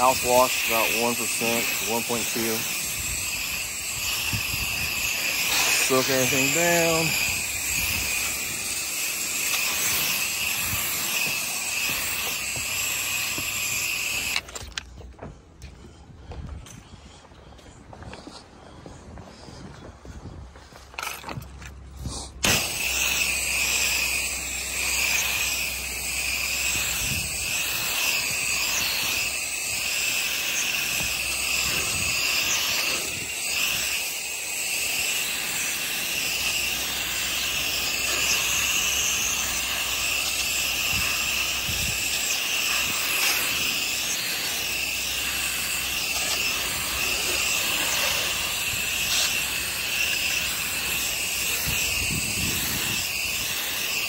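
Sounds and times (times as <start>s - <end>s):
pressure washer spray hissing: 0.0s - 14.7s, 22.1s - 54.0s.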